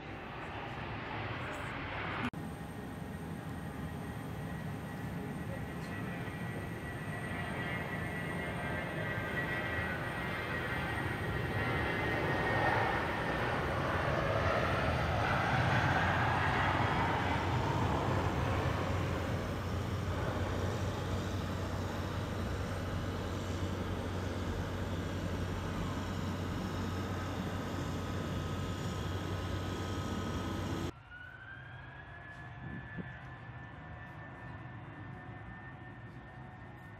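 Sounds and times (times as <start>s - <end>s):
jet airliner taking off: 0.0s - 35.8s.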